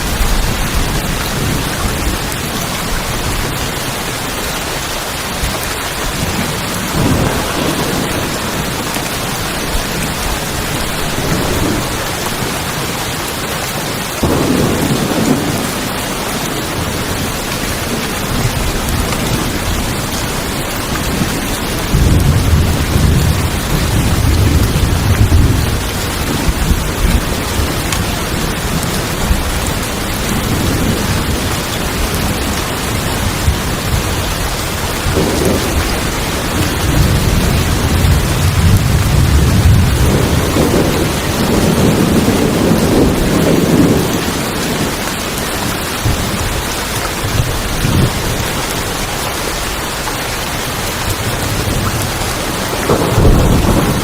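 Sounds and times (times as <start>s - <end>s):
heavy rain on a tin roof: 0.0s - 54.0s
thunder rumbling: 0.0s - 54.0s.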